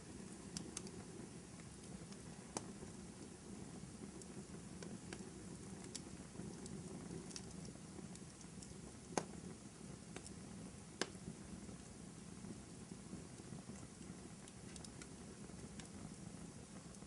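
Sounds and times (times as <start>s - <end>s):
fire crackles and pops: 0.0s - 17.0s
low rush of flame: 0.0s - 17.0s.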